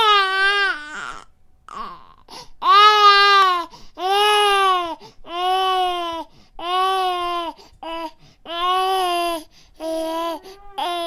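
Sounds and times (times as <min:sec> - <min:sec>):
infant crying: 0:00.0 - 0:11.0.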